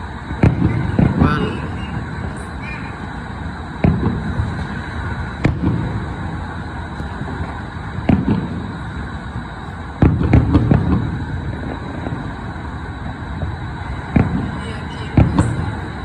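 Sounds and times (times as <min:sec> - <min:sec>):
city background noise: 0:00.0 - 0:16.0
distant fireworks bangs: 0:00.0 - 0:16.0.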